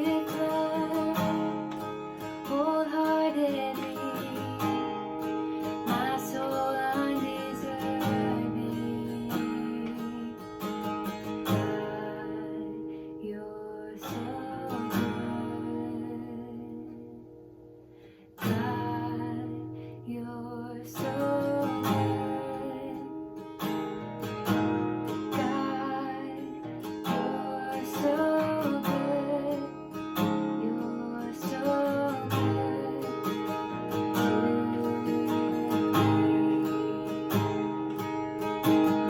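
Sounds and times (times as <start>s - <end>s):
acoustic guitar strumming chords: 0.0s - 13.2s, 14.0s - 39.0s.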